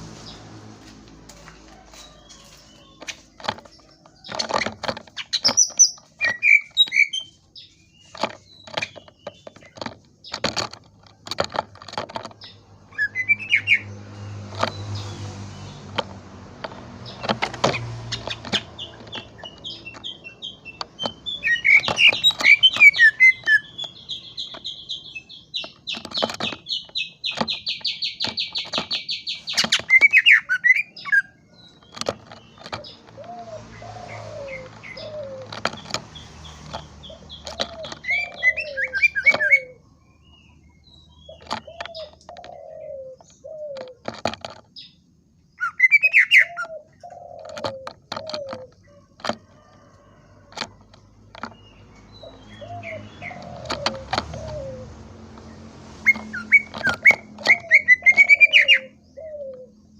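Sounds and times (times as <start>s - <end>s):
bird singing chattering song: 1.4s - 59.9s.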